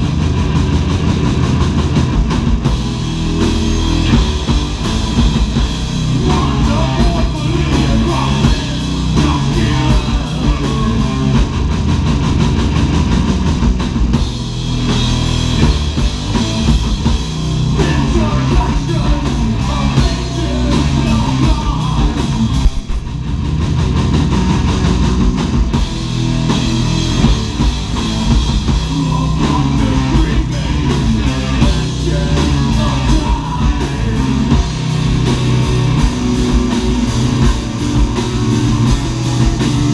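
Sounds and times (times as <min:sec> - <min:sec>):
heavy metal band playing: 0:00.0 - 0:39.9
rapid driving drumming: 0:00.0 - 0:39.9.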